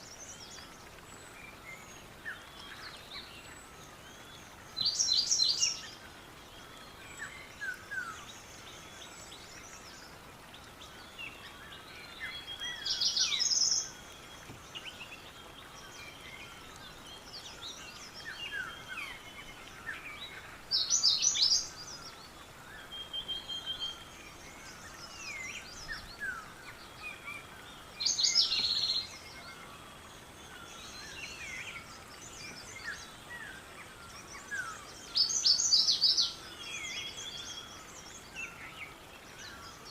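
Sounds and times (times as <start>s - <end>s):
loud bird song phrase: 0.0s - 39.9s
steady background hiss: 0.0s - 39.9s.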